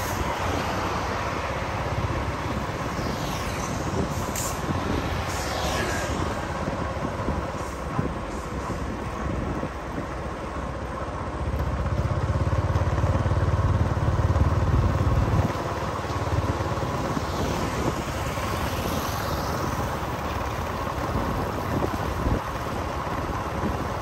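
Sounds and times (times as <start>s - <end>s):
engine and road rumble: 0.0s - 24.0s.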